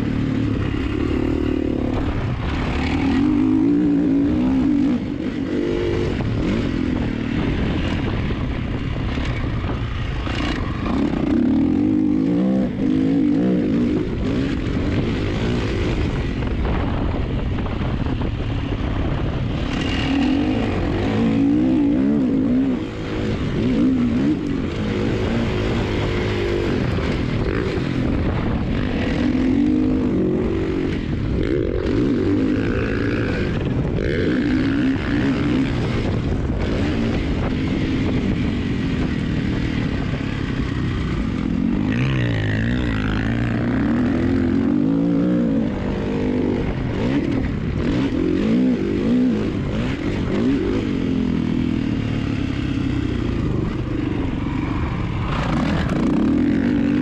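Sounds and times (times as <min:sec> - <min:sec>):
motocross bike engine revving: 0:00.0 - 0:17.4, 0:18.2 - 0:57.0.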